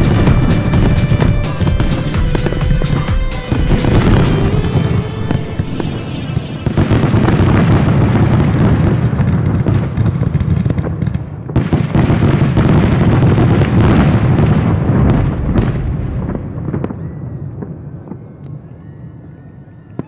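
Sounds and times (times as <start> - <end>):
fireworks crackling and popping: 0.0 - 18.6.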